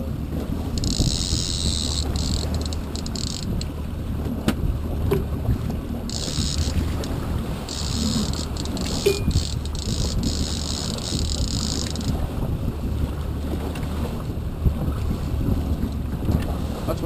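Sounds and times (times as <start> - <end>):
boat engine running: 0.0 - 17.0
water washing at hull: 0.0 - 17.0
wind rumbling on microphone: 0.0 - 17.0.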